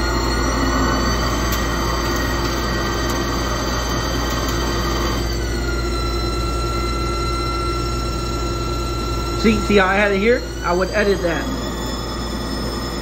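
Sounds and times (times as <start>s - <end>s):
lathe spindle whine: 0.0s - 13.0s
low machine hum: 0.0s - 13.0s.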